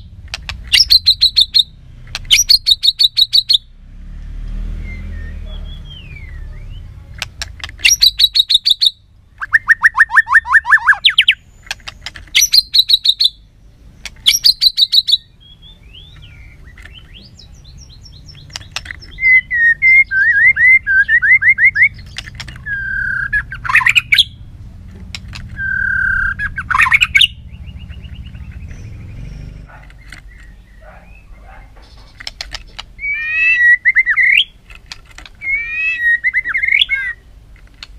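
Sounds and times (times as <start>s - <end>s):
bird singing: 0.0s - 3.8s, 4.6s - 37.3s.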